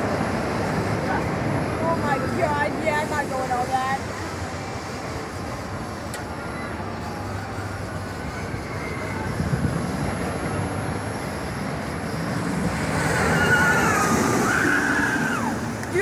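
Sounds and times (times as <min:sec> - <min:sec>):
roller coaster rumbling on track: 0:00.0 - 0:16.0.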